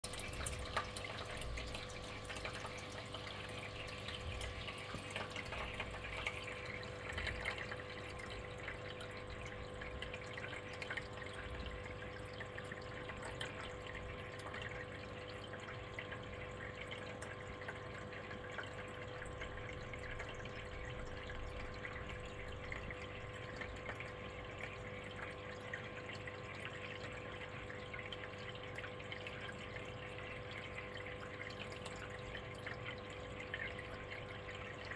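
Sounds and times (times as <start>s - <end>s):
aquarium filter hum: 0.0s - 34.9s
aquarium water trickling: 0.0s - 34.9s.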